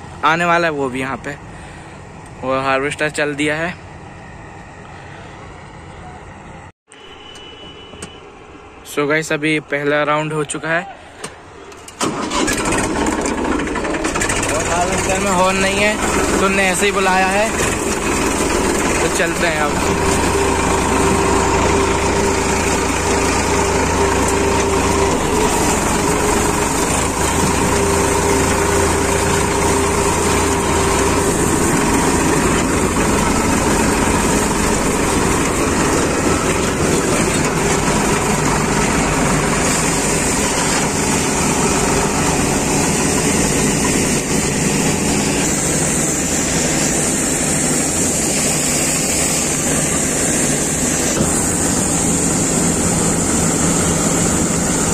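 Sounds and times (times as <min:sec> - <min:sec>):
diesel tractor engine running: 0:00.0 - 0:06.7, 0:11.2 - 0:54.9
combine harvester working: 0:00.0 - 0:08.8, 0:11.0 - 0:54.9.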